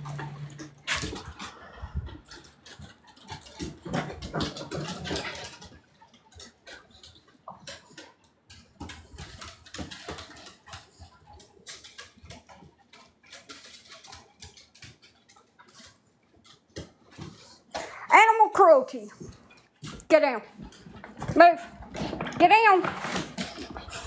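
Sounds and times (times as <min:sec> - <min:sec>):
paws scratching and rustling: 0:00.0 - 0:17.7, 0:18.7 - 0:24.0
dog claws clicking on floor: 0:00.0 - 0:18.0, 0:18.6 - 0:24.0.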